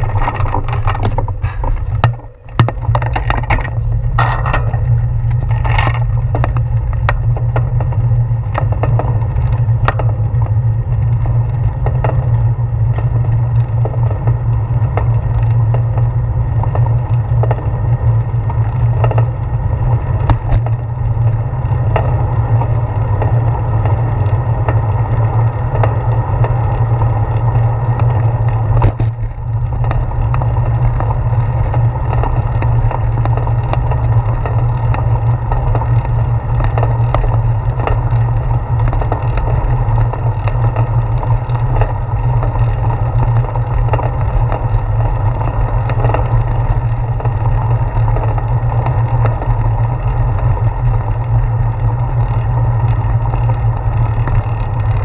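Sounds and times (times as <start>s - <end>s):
bicycle rattling over bumps: 0.0s - 55.0s
road and wind rumble: 0.0s - 55.0s.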